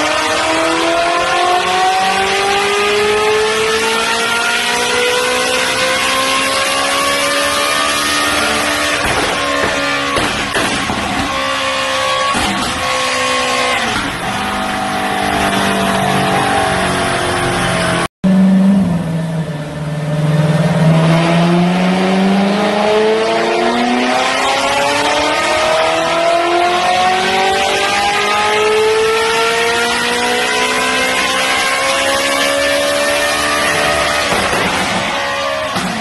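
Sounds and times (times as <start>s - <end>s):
sports car engine revving: 0.0s - 36.0s.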